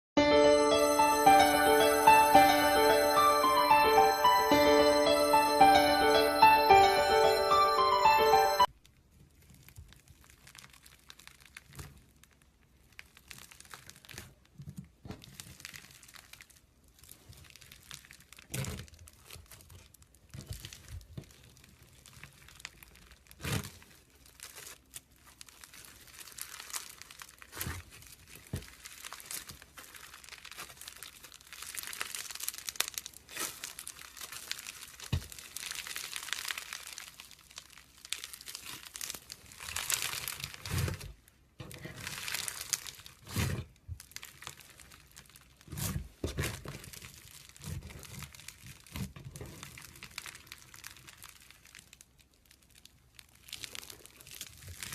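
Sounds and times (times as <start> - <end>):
slime materials crinkling and crackling: 9.4 - 54.9.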